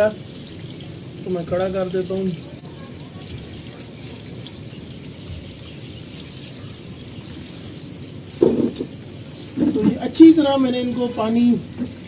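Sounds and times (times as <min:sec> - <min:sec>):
water sprinkling on dumbbells: 0:00.0 - 0:12.0.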